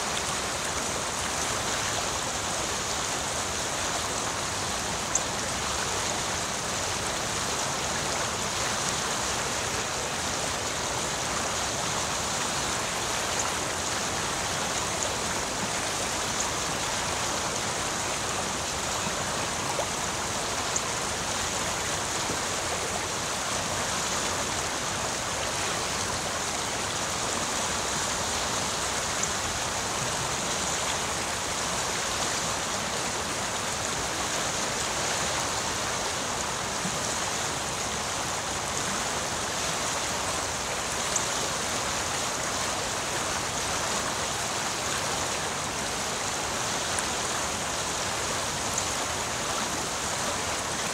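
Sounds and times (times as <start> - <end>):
creek babbling: 0.0 - 50.9.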